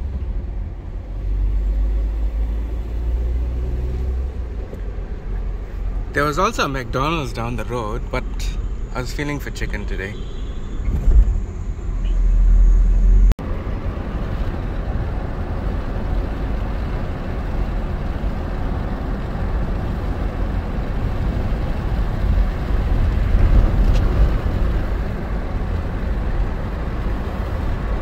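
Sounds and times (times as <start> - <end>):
car driving road noise: 0.0 - 28.0.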